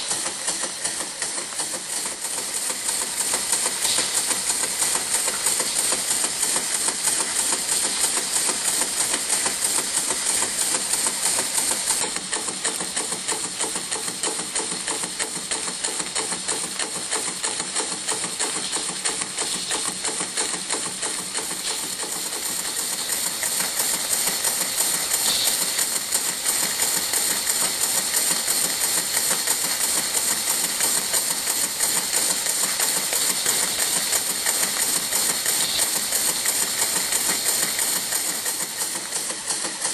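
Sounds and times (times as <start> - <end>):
model steam engine running: 0.0 - 39.9.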